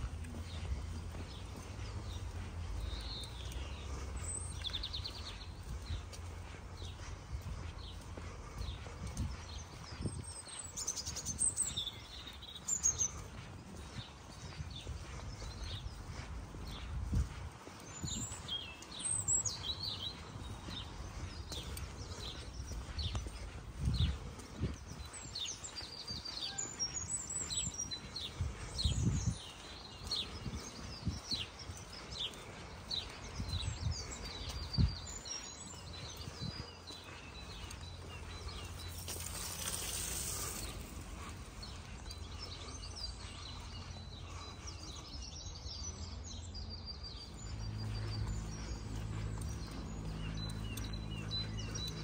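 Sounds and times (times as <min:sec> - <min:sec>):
songbirds chirping: 0:00.0 - 0:52.0.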